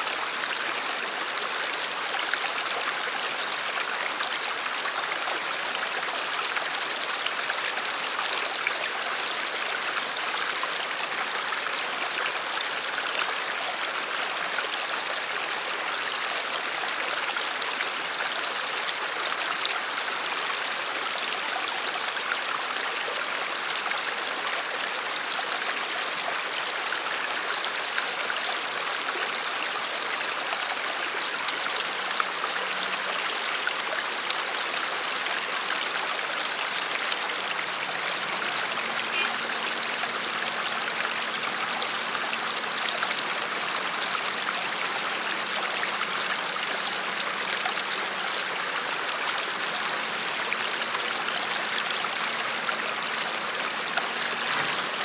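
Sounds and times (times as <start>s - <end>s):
shallow stream flowing: 0.0s - 55.0s.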